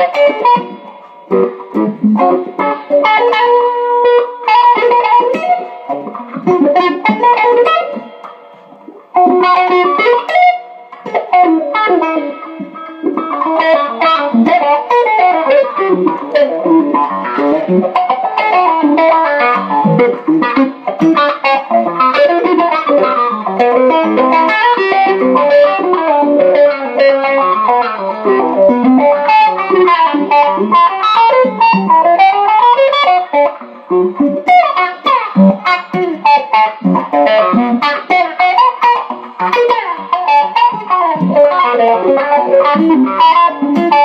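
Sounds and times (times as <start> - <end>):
electric guitar solo: 0.0 - 44.0.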